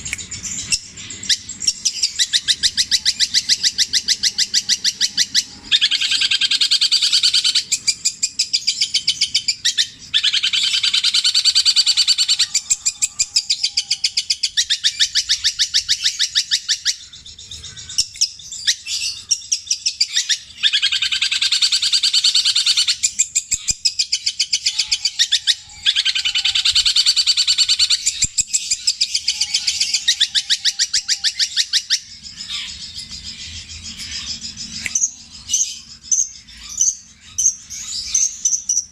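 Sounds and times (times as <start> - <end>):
bird singing rattling trills: 0.0 - 38.9.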